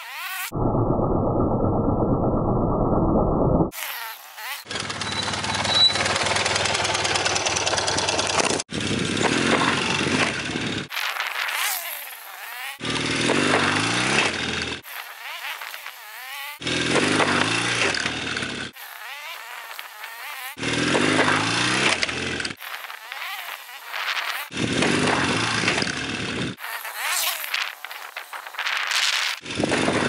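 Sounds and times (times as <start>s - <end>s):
motorcycle engine revving: 3.7s - 30.0s.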